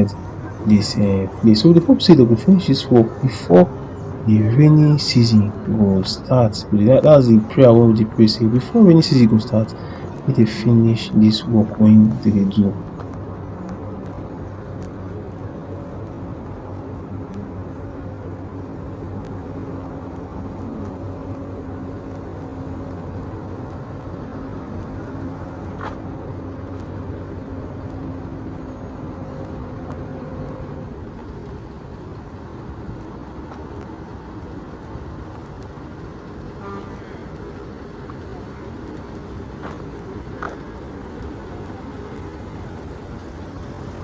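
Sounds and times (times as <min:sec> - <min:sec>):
nearby engine humming: 0:00.0 - 0:44.0
road traffic: 0:00.0 - 0:44.0.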